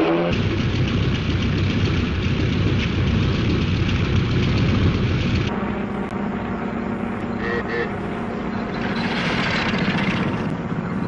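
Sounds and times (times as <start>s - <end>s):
airplane propeller engine drone: 0.0s - 11.0s.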